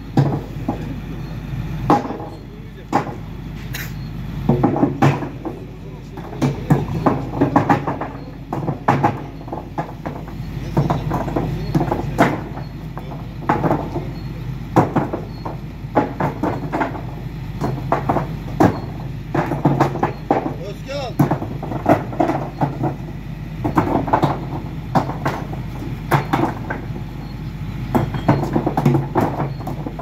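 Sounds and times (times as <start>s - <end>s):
low engine hum: 0.0s - 30.0s
paving stones clacking: 0.0s - 30.0s.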